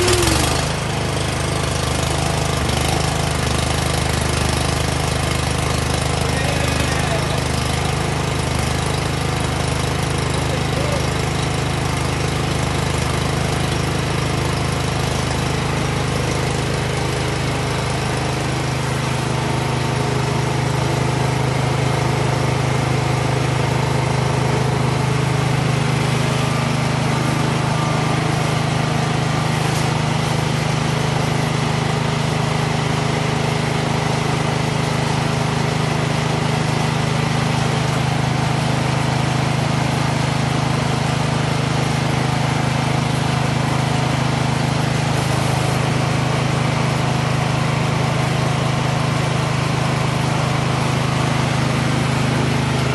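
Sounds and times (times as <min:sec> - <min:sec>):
snow blower engine running: 0:00.0 - 0:52.9.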